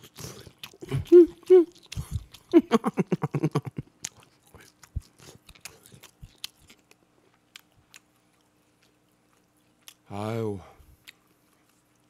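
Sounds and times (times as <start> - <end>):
close chewing: 0.0 - 10.1, 10.7 - 12.0.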